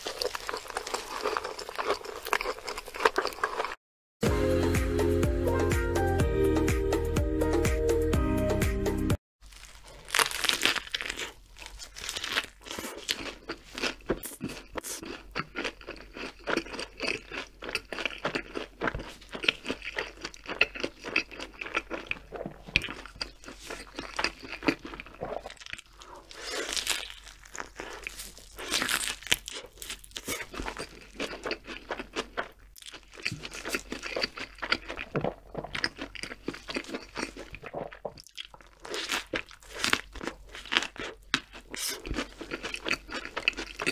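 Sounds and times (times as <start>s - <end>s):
crunchy biting and chewing: 0.0s - 3.8s, 9.4s - 43.9s.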